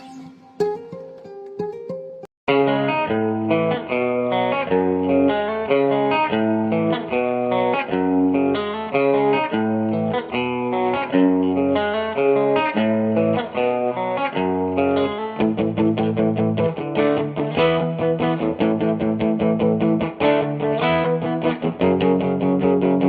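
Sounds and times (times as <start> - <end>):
guitar background music: 0.0 - 23.0.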